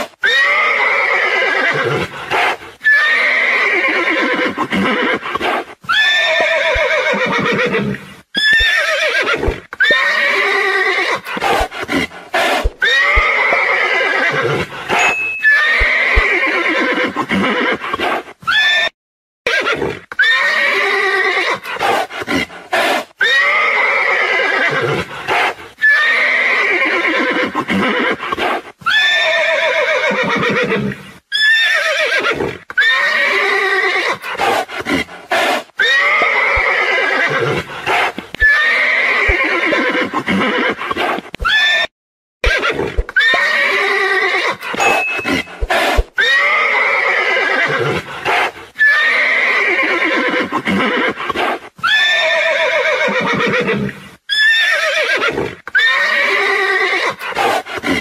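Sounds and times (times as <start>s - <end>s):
horses neighing: 0.0s - 18.9s, 19.5s - 58.0s.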